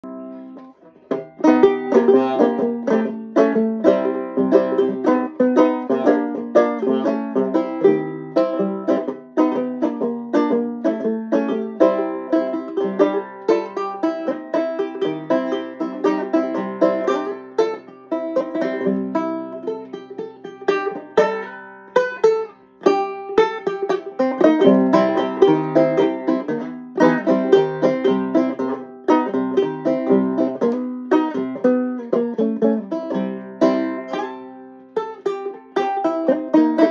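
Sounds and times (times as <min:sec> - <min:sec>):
blues banjo picking: 0:00.0 - 0:36.9.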